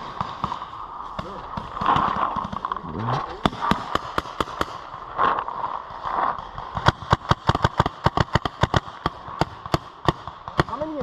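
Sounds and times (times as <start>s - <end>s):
paintball markers firing: 0.0s - 5.0s, 6.4s - 11.0s.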